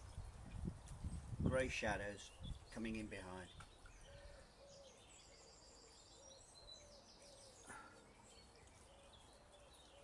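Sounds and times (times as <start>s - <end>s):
birds trilling: 1.8s - 10.0s.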